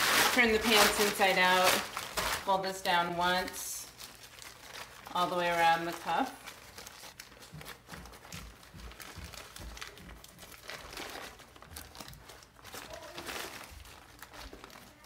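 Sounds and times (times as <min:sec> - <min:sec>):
fabric crinkling: 0:00.0 - 0:02.6, 0:03.4 - 0:15.0.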